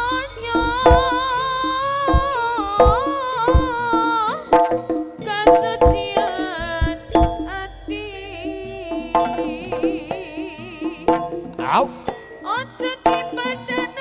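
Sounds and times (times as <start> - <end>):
hand drum strokes: 0.0 - 7.7, 8.8 - 14.0
wavering melody line: 0.0 - 14.0.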